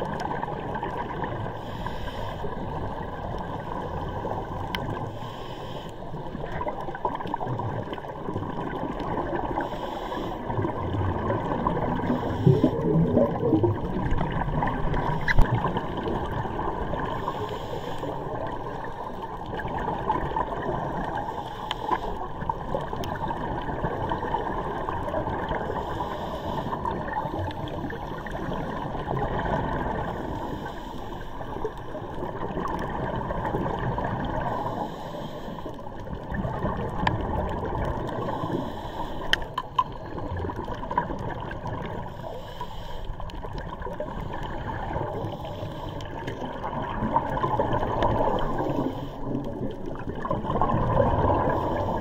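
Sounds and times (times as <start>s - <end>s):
water bubbling: 0.0s - 1.8s, 6.0s - 9.7s, 10.4s - 17.4s, 18.1s - 21.4s, 22.2s - 30.4s, 31.4s - 34.8s, 35.7s - 42.1s, 43.3s - 52.0s
water rushing and gurgling: 0.0s - 52.0s.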